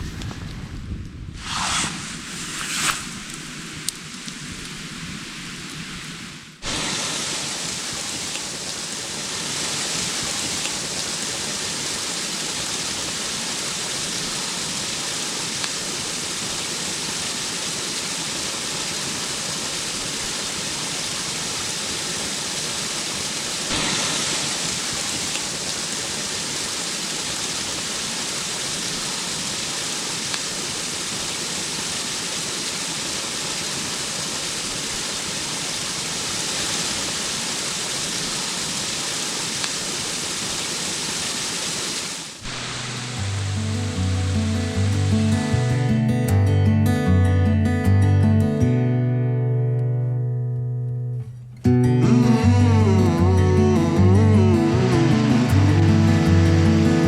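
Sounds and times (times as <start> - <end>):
flowing water rushing: 1.4 - 45.9, 52.1 - 57.0.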